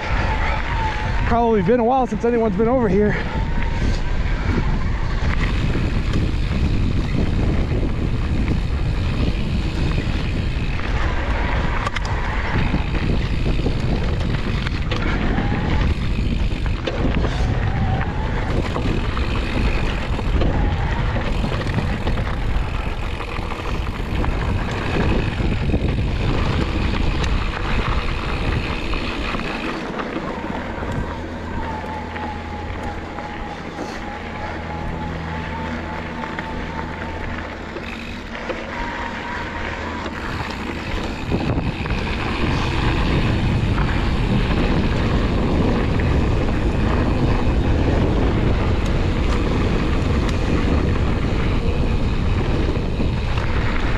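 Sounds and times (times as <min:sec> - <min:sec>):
tyres running over dirt: 0:00.0 - 0:53.9
wind on microphone: 0:00.0 - 0:53.9.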